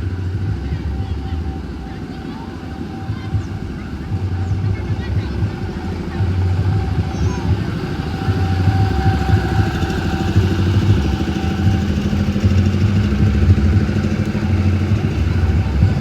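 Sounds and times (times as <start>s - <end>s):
booming bass from sound system: 3.1s - 16.0s.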